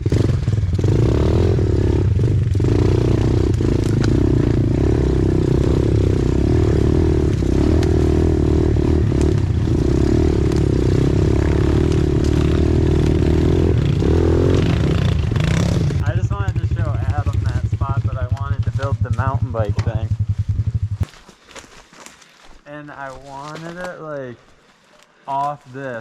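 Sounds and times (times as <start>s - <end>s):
pit bike engine running: 0.0s - 21.3s
scrapes and rattles over rough ground: 2.1s - 26.0s.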